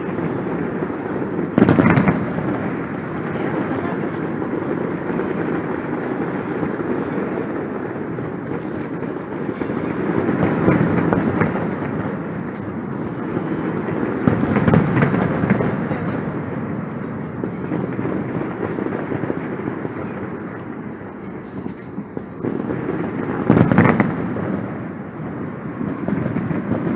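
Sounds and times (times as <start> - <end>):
distant fireworks rumble: 0.0 - 26.9.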